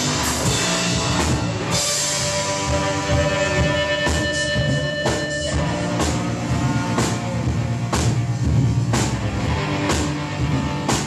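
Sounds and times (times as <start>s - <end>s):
live band music: 0.0s - 11.0s.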